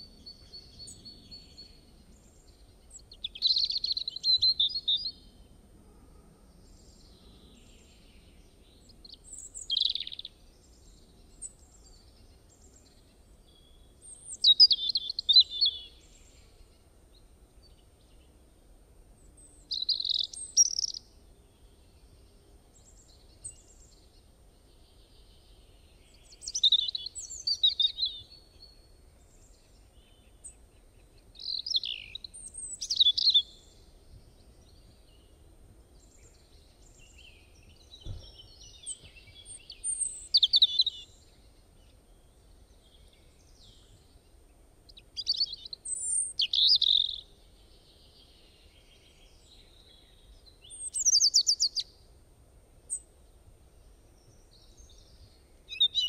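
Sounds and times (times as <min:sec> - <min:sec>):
bird chirping: 0:00.0 - 0:05.5, 0:06.5 - 0:16.8, 0:19.2 - 0:52.1, 0:52.9 - 0:56.0.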